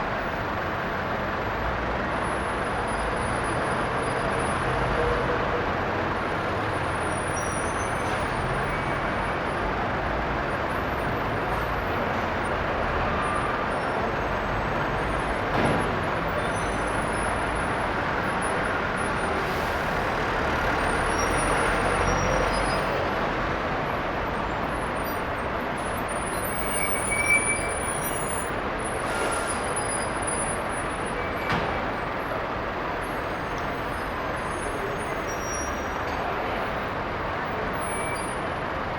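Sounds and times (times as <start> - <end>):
bus and traffic engine noise: 0.0 - 38.9.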